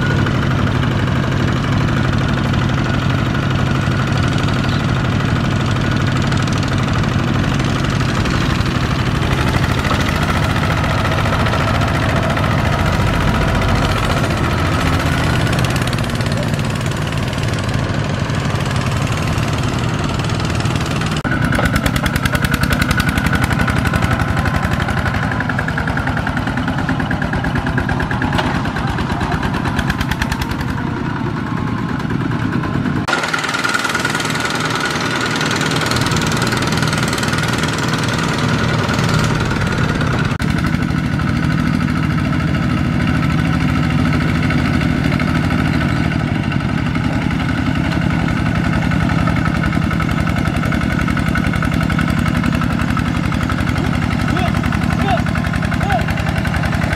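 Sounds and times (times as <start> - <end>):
diesel tractor engines running: 0.0 - 56.9.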